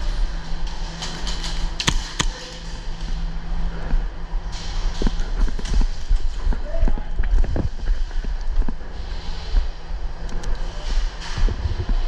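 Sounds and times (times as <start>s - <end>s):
footsteps and knocks: 0.0s - 12.0s
steady low hum: 0.0s - 12.0s.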